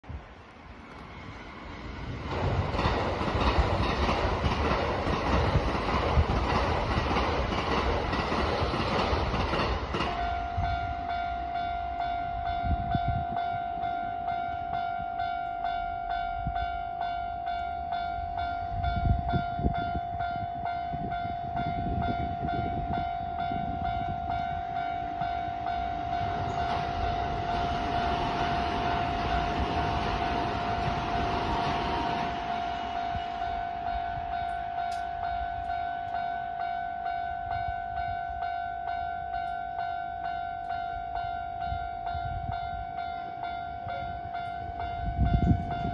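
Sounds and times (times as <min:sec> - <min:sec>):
train running past: 0:00.0 - 0:45.9.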